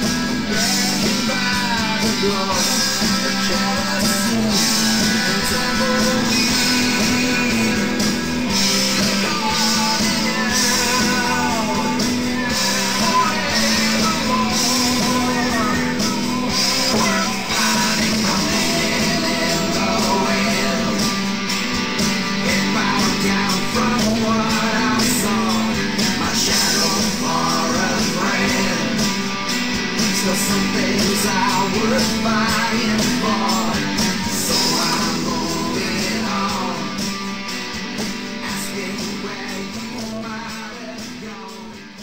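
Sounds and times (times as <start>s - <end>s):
rock and roll band with guitars: 0.0s - 42.0s.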